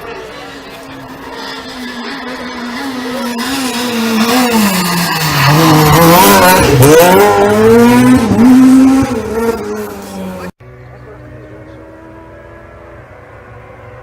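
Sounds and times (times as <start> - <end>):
rally car passing at speed: 0.0 - 14.0.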